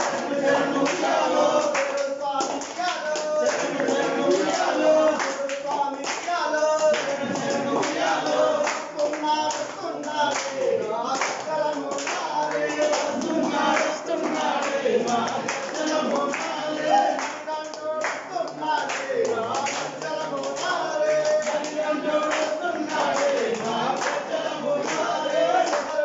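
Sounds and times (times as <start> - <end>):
hand claps: 0.0 - 26.0
men singing together: 0.0 - 26.0.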